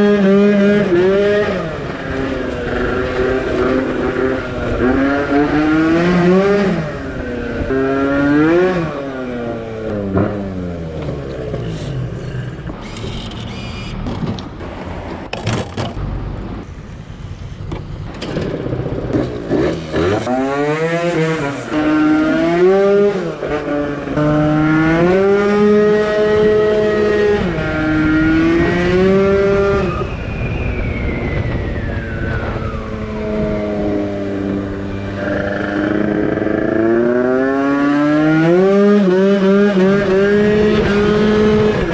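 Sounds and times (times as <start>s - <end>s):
scooter engine revving: 0.0s - 16.0s, 18.1s - 29.8s, 33.3s - 41.9s.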